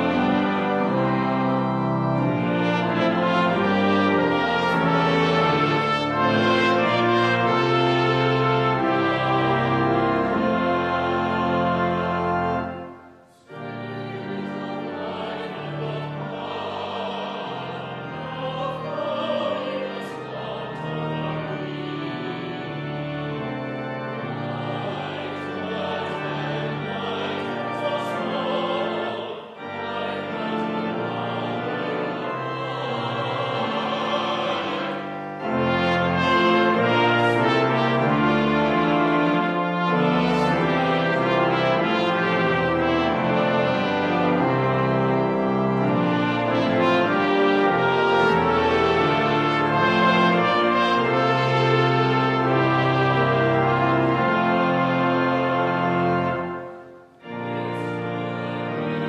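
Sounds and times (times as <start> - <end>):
organ with trumpet and horn: 0.0 - 59.0
vocal quartet singing a hymn: 0.0 - 59.0.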